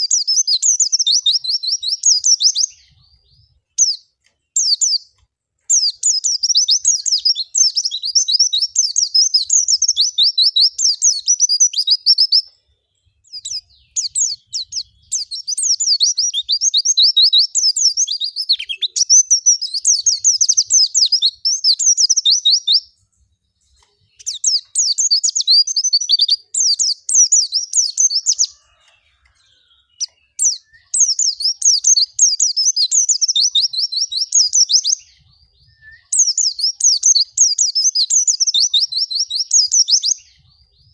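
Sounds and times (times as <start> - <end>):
bird high twittering song: 0.0 - 40.9.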